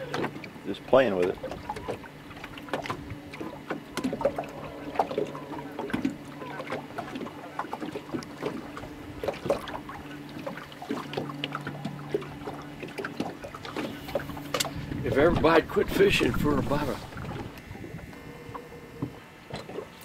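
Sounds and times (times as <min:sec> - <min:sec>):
boat motor humming: 0:00.0 - 0:20.0
waves lapping against boat hull: 0:00.0 - 0:20.0.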